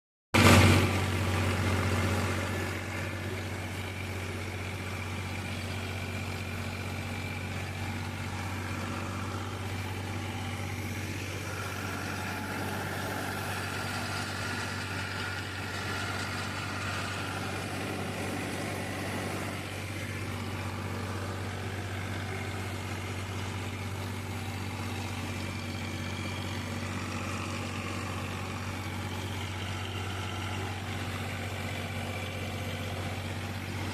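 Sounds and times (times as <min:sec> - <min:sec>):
tractor diesel engine droning: 0:00.4 - 0:33.9.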